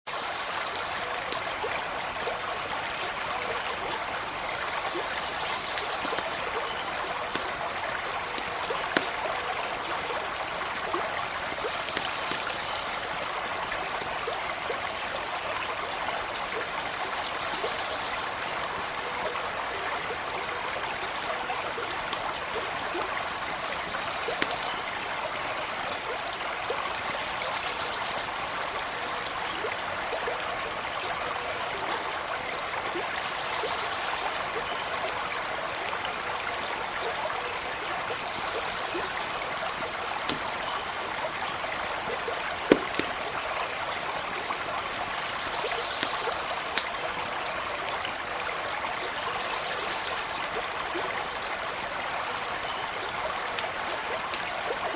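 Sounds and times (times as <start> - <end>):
small stream running: 0.0 - 54.9
campfire crackling: 0.8 - 54.9.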